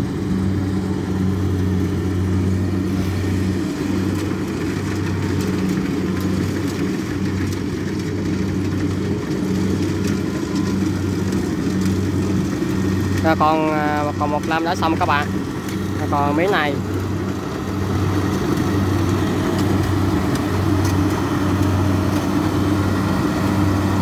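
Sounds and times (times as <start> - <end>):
combine harvester engine running: 0.0 - 24.0.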